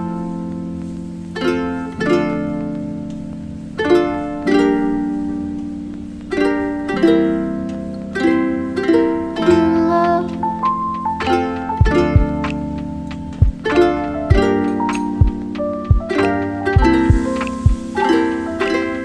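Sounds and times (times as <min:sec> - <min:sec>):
plucked string chords: 0:00.0 - 0:19.0.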